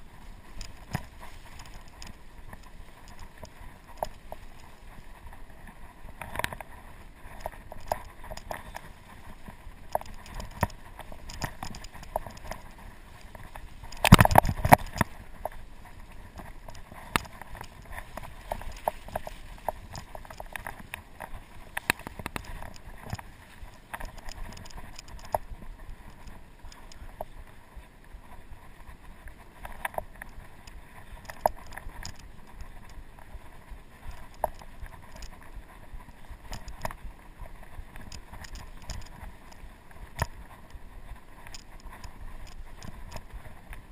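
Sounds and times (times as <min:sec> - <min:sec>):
bike rattling over bumps: 0:00.0 - 0:43.9
bike tyres on leafy dirt trail: 0:00.0 - 0:43.9.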